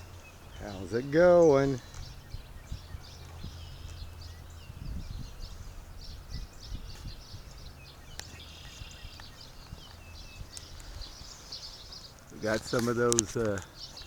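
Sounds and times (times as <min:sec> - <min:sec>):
low steady rumble: 0:00.0 - 0:12.2
small birds chirping: 0:00.0 - 0:14.0.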